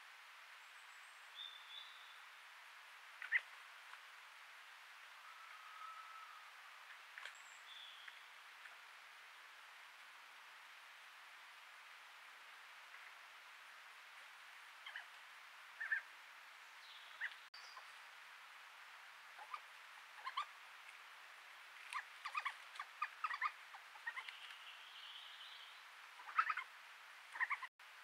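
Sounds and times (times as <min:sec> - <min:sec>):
microphone hiss: 0:00.0 - 0:28.0.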